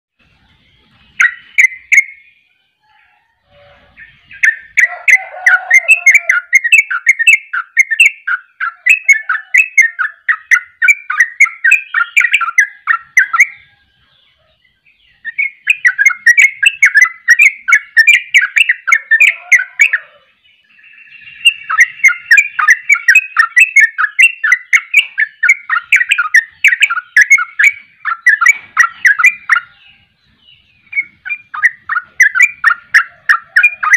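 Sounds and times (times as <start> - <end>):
bird singing rapid notes: 0.2 - 33.9.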